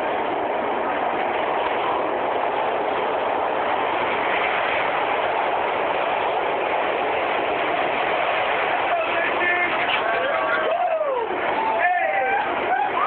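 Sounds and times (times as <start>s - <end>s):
moving train running noise: 0.0s - 13.0s.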